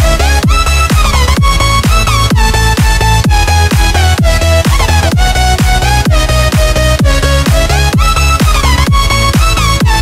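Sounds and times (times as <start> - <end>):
electronic dance music: 0.0 - 10.0
kick drum: 0.0 - 10.0
pitch-bending synth melody: 0.0 - 10.0.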